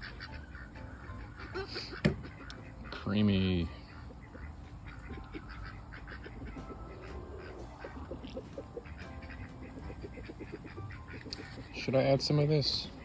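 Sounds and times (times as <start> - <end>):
chickens clucking: 0.0 - 13.0
ducks quacking: 0.0 - 13.0.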